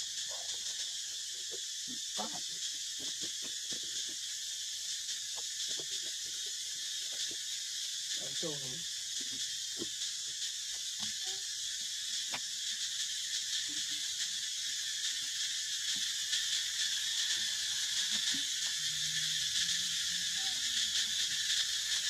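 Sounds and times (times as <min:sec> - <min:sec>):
insects buzzing: 0:00.0 - 0:22.0.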